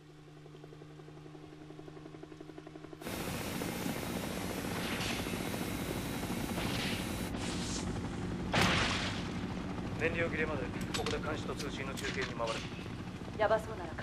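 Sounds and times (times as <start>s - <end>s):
engine hum: 0.0s - 14.0s
rush of rotor noise and wind: 0.0s - 14.0s
helicopter rotor thudding: 1.6s - 13.6s.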